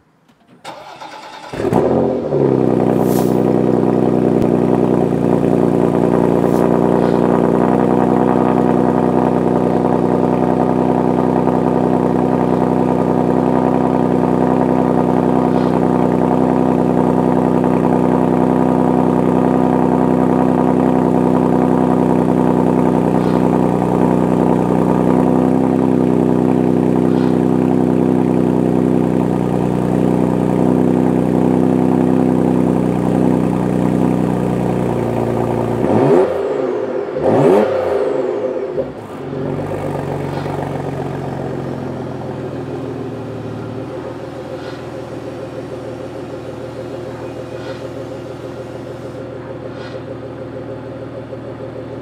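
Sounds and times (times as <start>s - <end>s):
car engine starting and idling: 0.0s - 52.0s.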